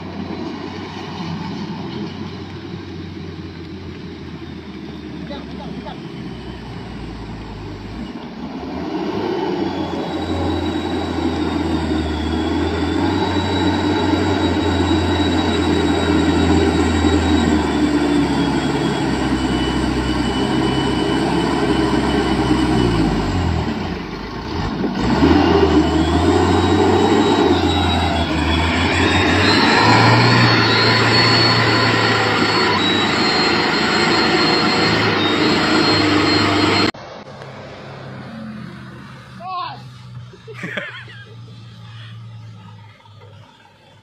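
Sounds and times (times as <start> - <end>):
diesel truck engine labouring: 0.0 - 44.0.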